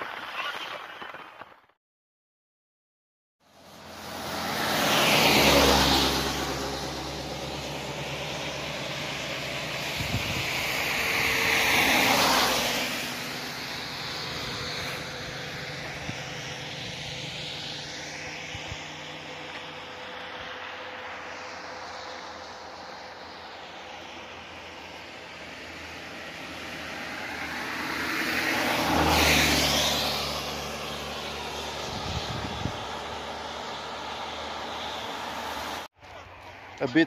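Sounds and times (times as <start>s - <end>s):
car tyres hissing on wet road: 3.6s - 35.9s.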